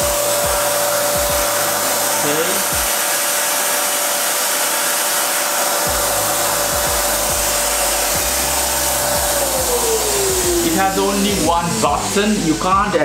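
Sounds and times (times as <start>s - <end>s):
vacuum cleaner high whine: 0.0s - 13.0s
vacuum cleaner running: 0.0s - 13.0s.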